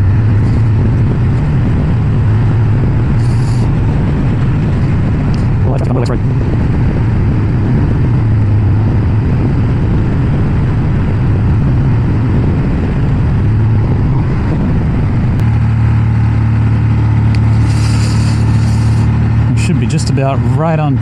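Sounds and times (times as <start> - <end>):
motorcycle engine running: 0.0 - 21.0
riding wind noise: 0.0 - 21.0.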